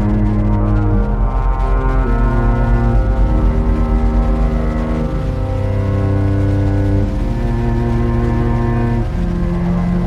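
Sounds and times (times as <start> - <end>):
background music of sustained chords: 0.0 - 10.0
deep bass: 0.0 - 10.0.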